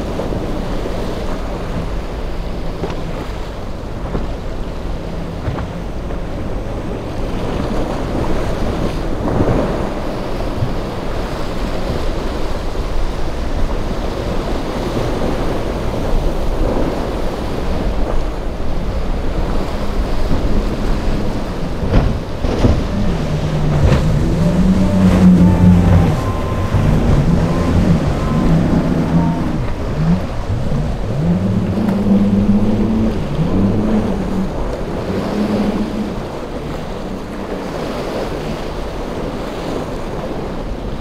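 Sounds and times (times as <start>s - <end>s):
outboard boat passing close: 0.0s - 41.0s
outboard motors running: 0.0s - 41.0s
surf: 0.0s - 41.0s
wind buffeting microphone: 0.0s - 41.0s.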